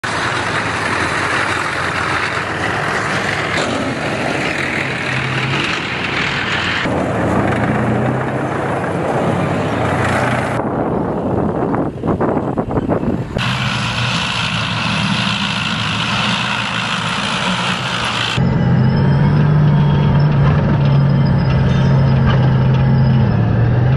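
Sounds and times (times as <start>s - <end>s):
tracked vehicle engine and tracks: 0.0s - 23.9s.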